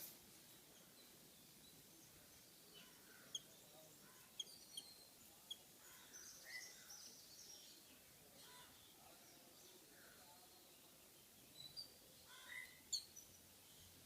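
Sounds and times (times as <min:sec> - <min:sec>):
low background hiss: 0:00.0 - 0:14.0
small birds chirping: 0:00.0 - 0:14.0.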